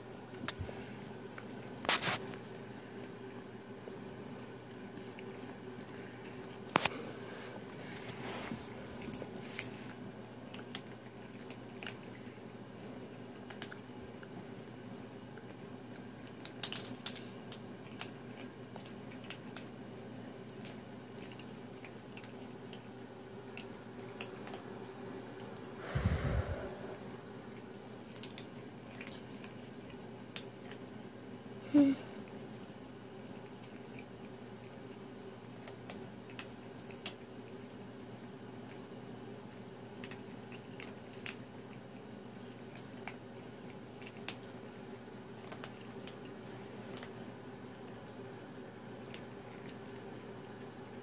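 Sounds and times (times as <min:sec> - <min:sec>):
steady low hum: 0:00.0 - 0:51.0
kittens crunching kibble: 0:00.1 - 0:51.0.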